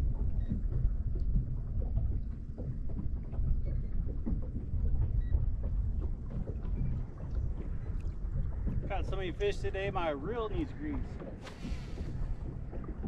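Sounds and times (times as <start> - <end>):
small waves lapping against hull: 0.0 - 13.0
wind buffeting microphone: 0.0 - 13.0.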